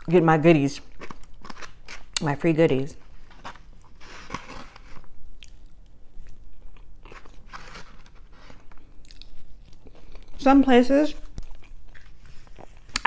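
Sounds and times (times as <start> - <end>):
person chewing crunchy food: 0.8 - 2.3, 3.2 - 10.4, 11.2 - 13.0.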